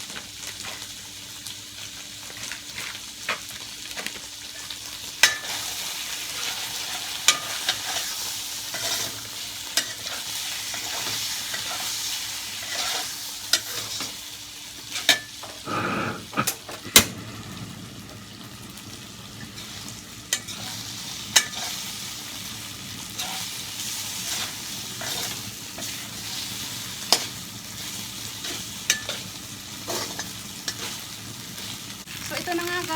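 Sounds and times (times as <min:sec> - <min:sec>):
vegetables sizzling in oil: 0:00.0 - 0:32.9.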